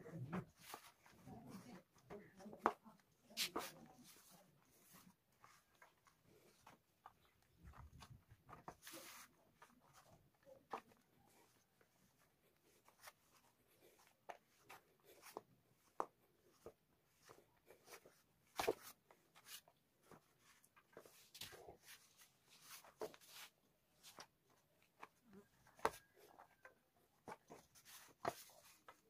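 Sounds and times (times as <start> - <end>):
hands kneading dough: 0.1 - 29.0.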